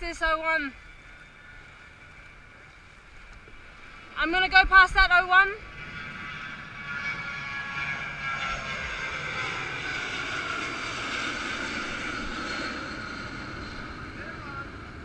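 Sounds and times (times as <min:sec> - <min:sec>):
passing engine drone: 0:00.0 - 0:15.0.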